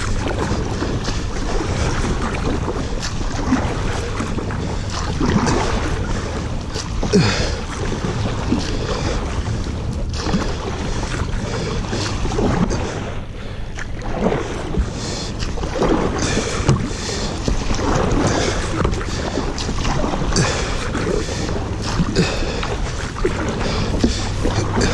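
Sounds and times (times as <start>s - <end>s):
paddle strokes splashing: 0.0s - 24.9s
rushing river water: 0.0s - 24.9s.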